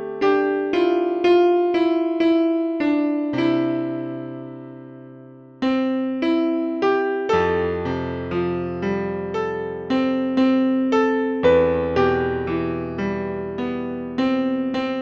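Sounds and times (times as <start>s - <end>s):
solo piano slow melody: 0.0s - 15.0s.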